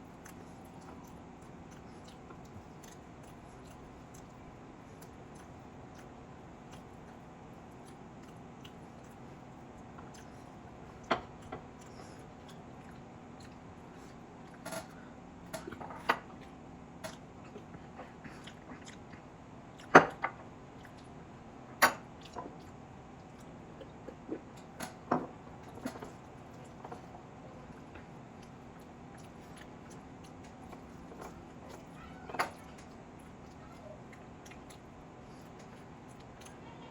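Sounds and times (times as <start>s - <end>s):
person chewing: 0.0s - 15.0s, 15.6s - 20.2s, 20.8s - 21.2s, 22.1s - 36.6s
steady low hum: 0.0s - 36.9s.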